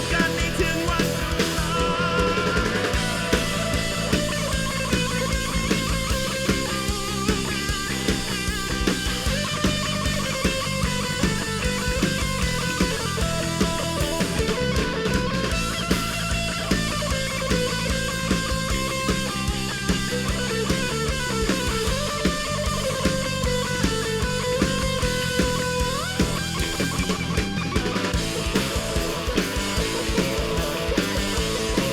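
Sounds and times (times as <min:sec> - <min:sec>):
bass guitar: 0:00.0 - 0:31.9
steady drum beat: 0:00.0 - 0:31.9.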